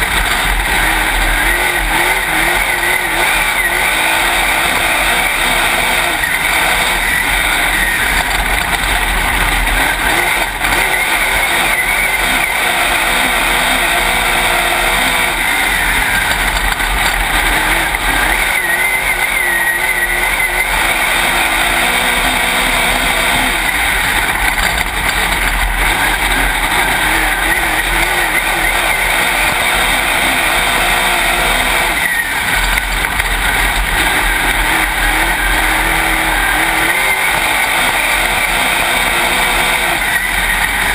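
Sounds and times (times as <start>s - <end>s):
race car engine running loud: 0.0s - 40.9s.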